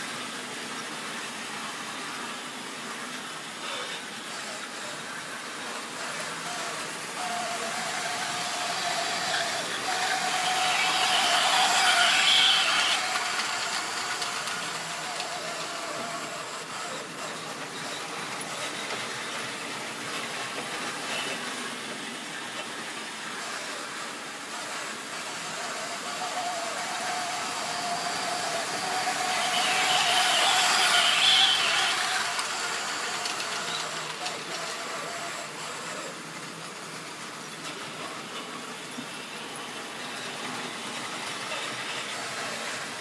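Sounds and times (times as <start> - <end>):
model train motor whining: 0.0 - 43.0
model train wheels on track: 0.0 - 43.0.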